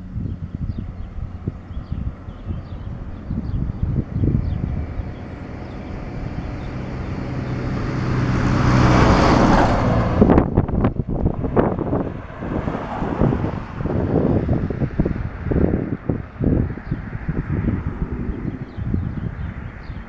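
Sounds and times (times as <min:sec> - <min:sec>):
wind buffeting microphone: 0:00.0 - 0:20.0
car passing by: 0:02.4 - 0:20.0.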